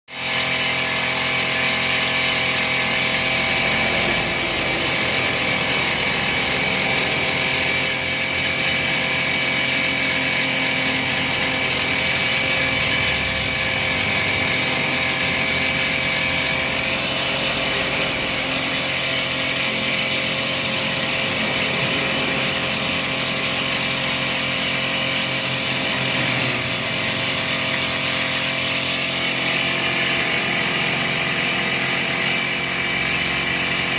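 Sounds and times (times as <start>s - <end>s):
small petrol engine running: 0.1s - 33.9s.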